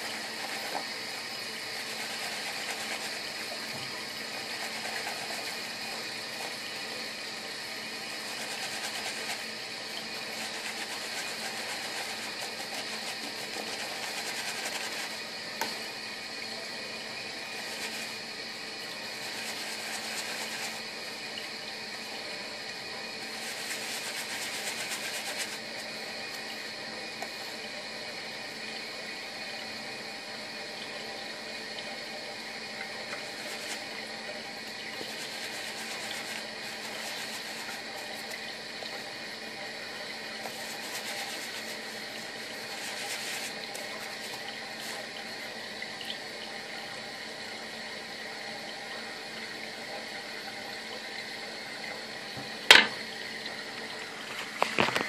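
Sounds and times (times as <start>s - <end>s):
shaving brush lathering cream: 0.0s - 47.5s
background hiss and hum: 0.0s - 55.0s.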